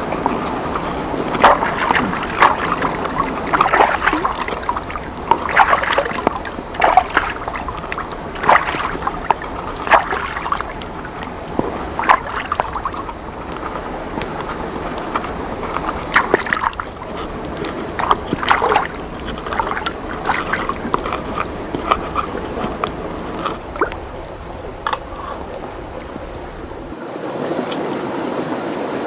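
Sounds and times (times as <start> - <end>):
water sloshing and splashing: 0.0 - 27.0
steady rush of water: 0.0 - 28.9
thin high whine: 0.0 - 29.0.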